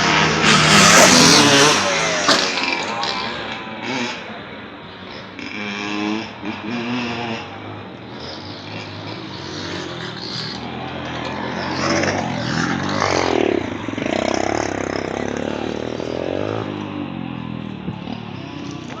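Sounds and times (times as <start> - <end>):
dirt bike engines revving: 0.0 - 19.0
dirt bike passing close: 0.0 - 19.0.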